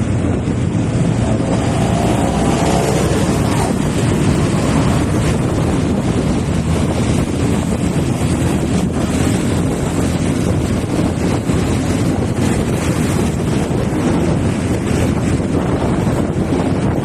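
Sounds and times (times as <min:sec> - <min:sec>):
motorcycle engine rumbling: 0:00.0 - 0:17.0
wind rushing over microphone: 0:00.0 - 0:17.0.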